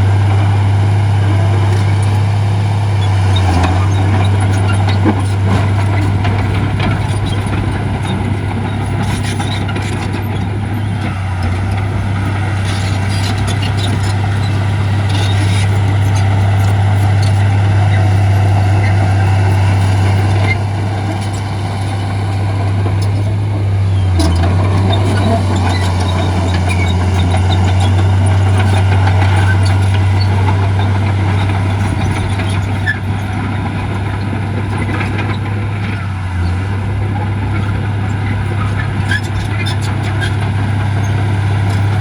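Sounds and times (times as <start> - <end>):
heavy diesel engine droning: 0.0 - 42.0.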